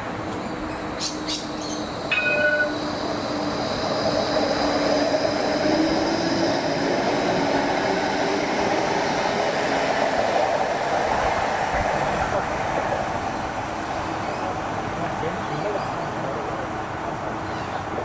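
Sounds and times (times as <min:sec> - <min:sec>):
tram rolling past: 0:00.0 - 0:18.0.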